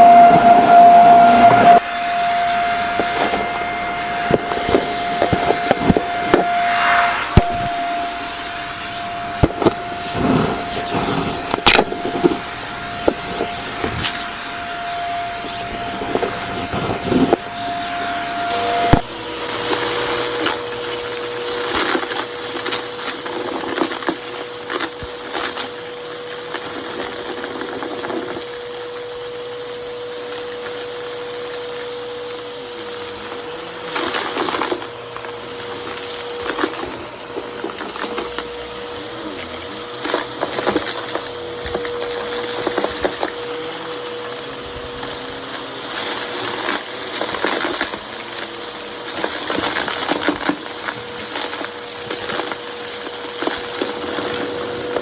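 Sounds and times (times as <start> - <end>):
debris crackling up nozzle: 0.0 - 17.5, 18.5 - 55.0
vacuum cleaner motor whine: 0.0 - 55.0.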